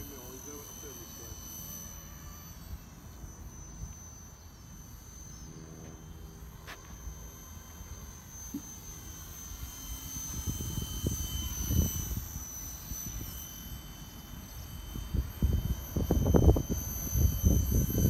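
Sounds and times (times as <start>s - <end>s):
helicopter motor whine: 0.0s - 18.0s.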